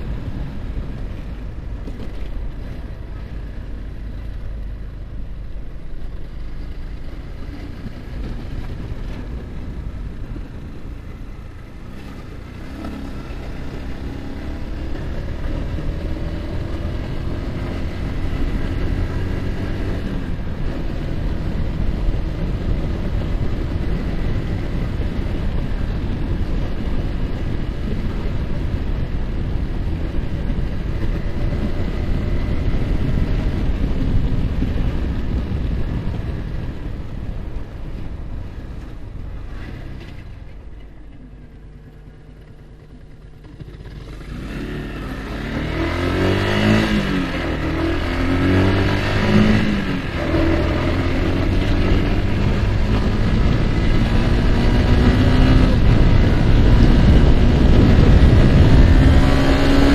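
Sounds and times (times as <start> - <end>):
motorcycle engine accelerating: 0.0 - 59.9
wind noise on microphone: 0.0 - 59.9.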